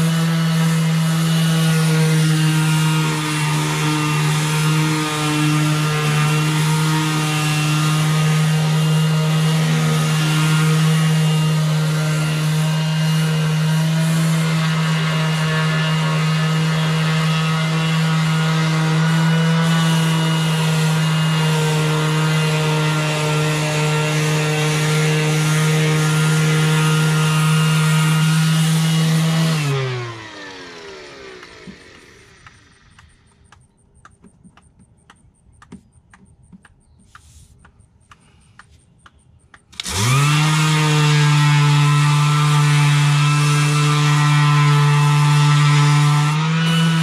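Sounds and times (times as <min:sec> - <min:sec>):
orbital sander running: 0:00.0 - 0:33.6, 0:39.0 - 0:47.0.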